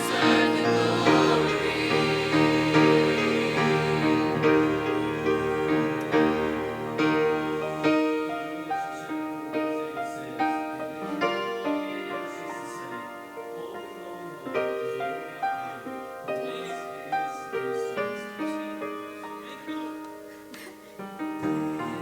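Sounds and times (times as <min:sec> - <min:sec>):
piano chords and notes: 0:00.0 - 0:22.0.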